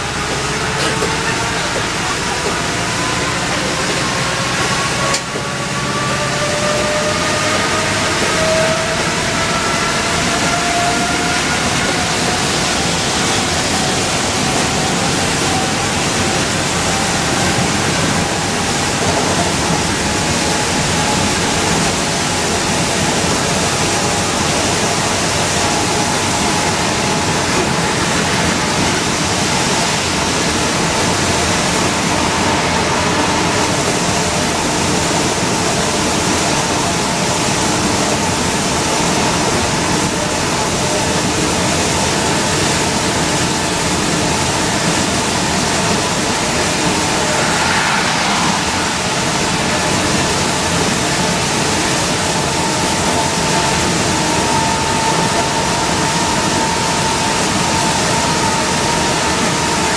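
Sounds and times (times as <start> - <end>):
drivetrain whine: 0.0 - 59.9
tyres rushing on wet road: 0.0 - 59.9.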